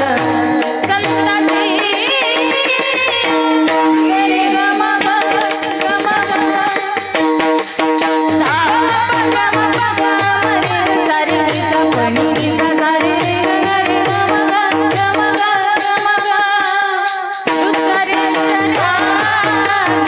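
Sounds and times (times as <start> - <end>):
jingling percussion: 0.0 - 20.0
woman singing devotional song: 0.0 - 20.0.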